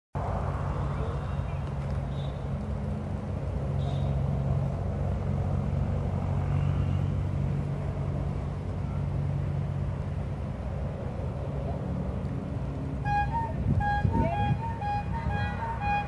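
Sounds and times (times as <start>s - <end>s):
low engine rumble: 0.2s - 16.0s.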